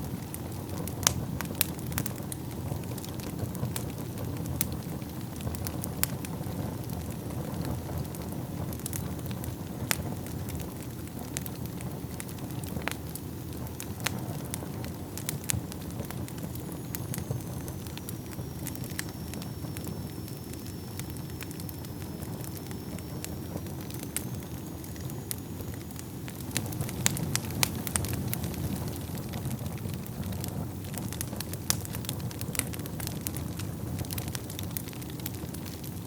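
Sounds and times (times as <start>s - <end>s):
fire crackles and pops: 0.0s - 36.0s
low rumble of flames: 0.0s - 36.0s.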